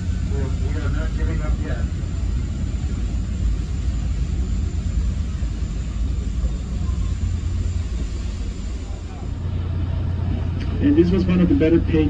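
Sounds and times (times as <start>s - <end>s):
boat engine droning rumble: 0.0s - 12.0s
thin high whine: 0.0s - 12.0s.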